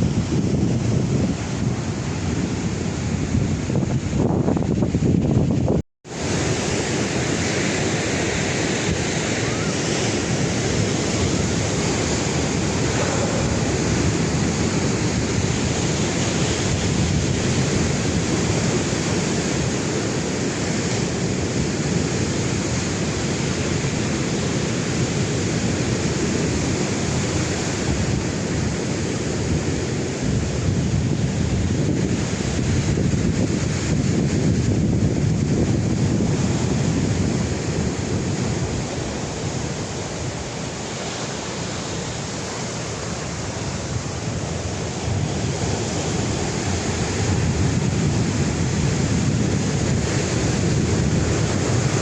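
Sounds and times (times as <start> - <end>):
sea surf washing on shore: 0.0 - 52.0
wind rumbling on microphone: 0.0 - 52.0.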